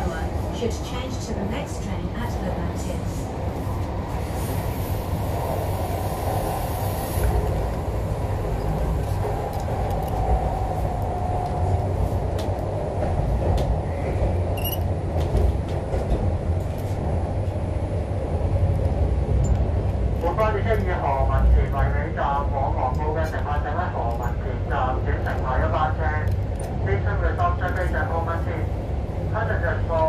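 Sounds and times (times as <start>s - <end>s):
metro train wheels rumbling: 0.0s - 30.0s.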